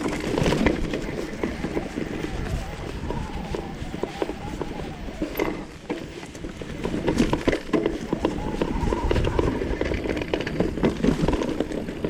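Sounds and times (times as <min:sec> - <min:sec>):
mountain bike clattering over trail: 0:00.0 - 0:12.0
wind rumble on microphone: 0:00.0 - 0:12.0.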